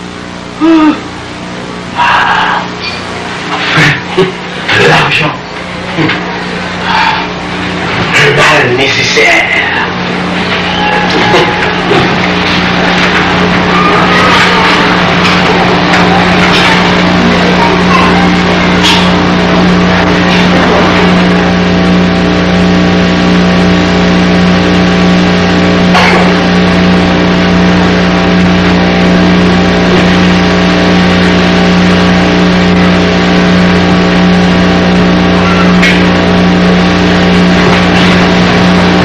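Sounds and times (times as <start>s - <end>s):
electrical hum with hiss: 0.0s - 39.0s.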